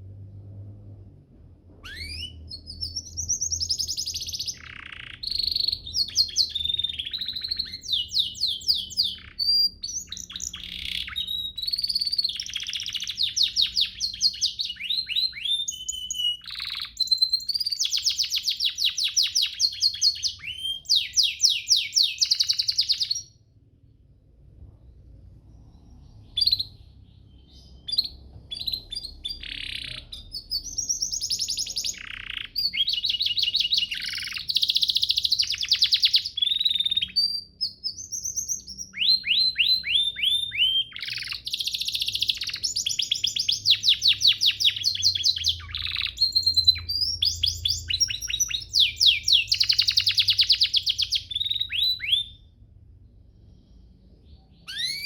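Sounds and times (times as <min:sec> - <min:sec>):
canary singing: 0:01.8 - 0:23.4, 0:25.5 - 0:52.6, 0:53.7 - 0:55.0.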